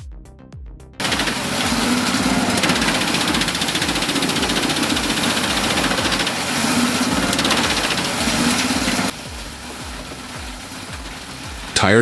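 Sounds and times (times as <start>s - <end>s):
background music beat: 0.0s - 12.0s
heavy machinery rattling: 1.0s - 11.8s.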